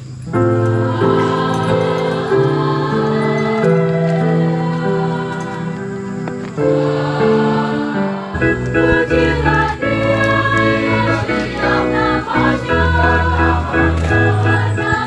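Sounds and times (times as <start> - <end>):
choir singing slow chords: 0.0 - 15.0.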